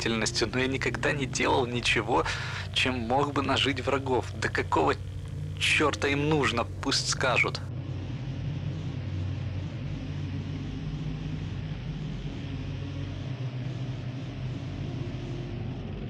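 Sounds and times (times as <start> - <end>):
low rumbling hum: 0.0 - 16.0.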